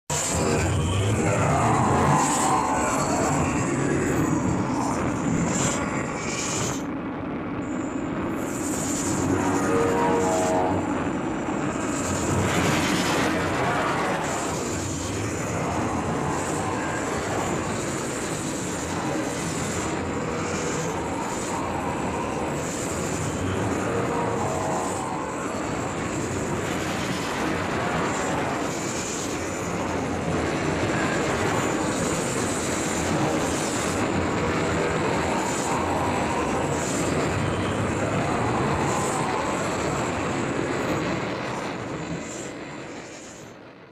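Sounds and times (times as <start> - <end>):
dense rushing noise: 0.0 - 43.9
thin high whine: 0.0 - 43.9.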